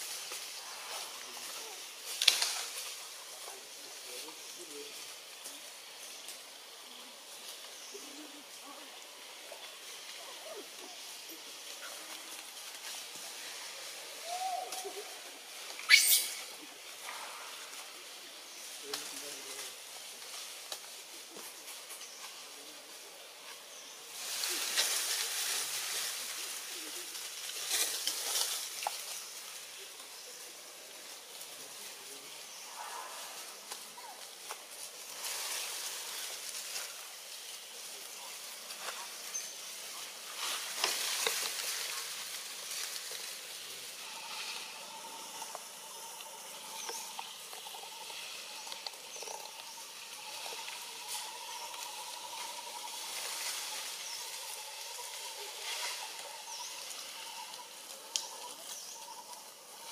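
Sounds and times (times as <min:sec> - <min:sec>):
leaves and branches rustling: 0:00.0 - 0:59.9
steady outdoor hiss: 0:00.0 - 0:59.9.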